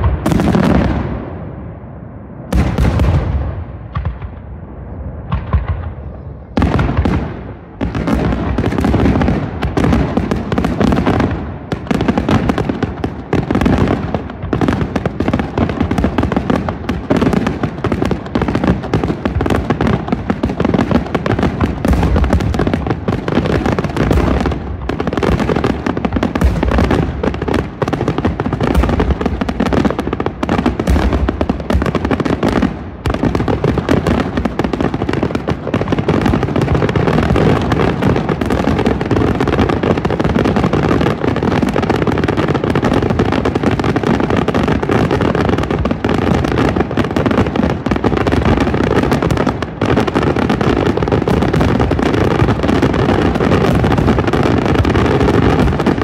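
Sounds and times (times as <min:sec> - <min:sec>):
fireworks bursts and booms: 0:00.0 - 0:56.0.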